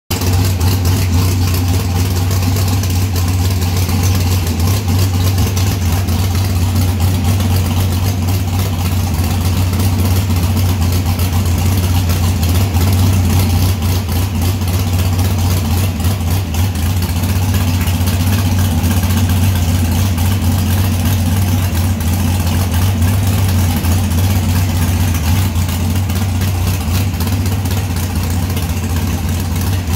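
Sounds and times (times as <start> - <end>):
loud engine idling: 0.1 - 29.9.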